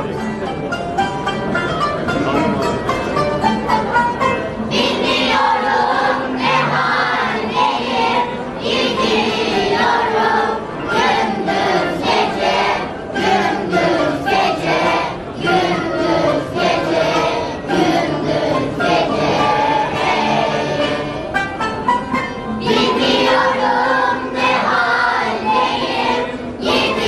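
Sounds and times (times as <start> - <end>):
instrumental accompaniment: 0.0 - 27.0
children's choir singing: 4.6 - 21.6, 22.2 - 27.0.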